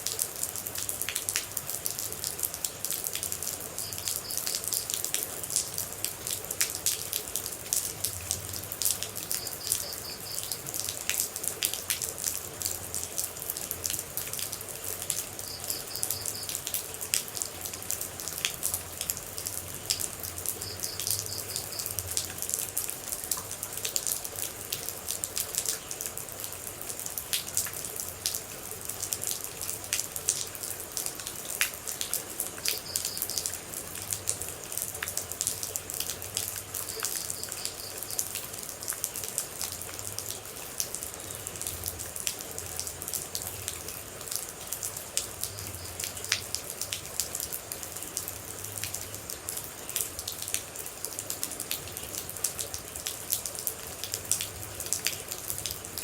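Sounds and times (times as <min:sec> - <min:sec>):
rain droplets pattering: 0:00.0 - 0:56.0
steady rain hiss: 0:00.0 - 0:56.0.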